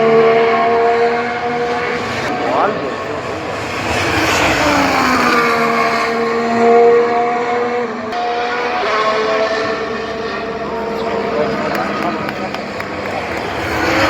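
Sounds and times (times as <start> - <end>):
race car engine passing: 0.0 - 14.0.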